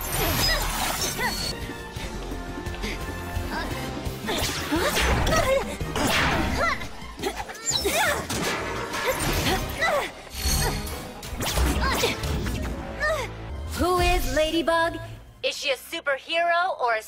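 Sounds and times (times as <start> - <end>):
action music: 0.0 - 7.3, 8.2 - 15.8.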